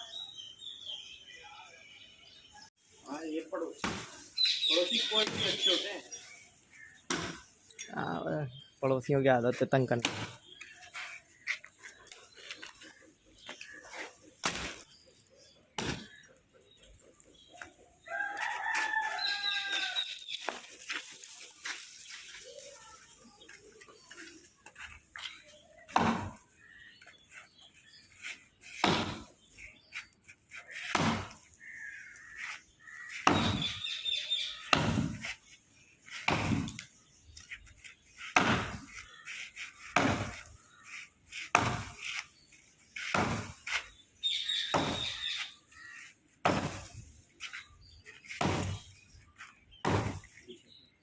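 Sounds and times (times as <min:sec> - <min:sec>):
bird chirping: 0:00.0 - 0:46.4, 0:47.2 - 0:51.0.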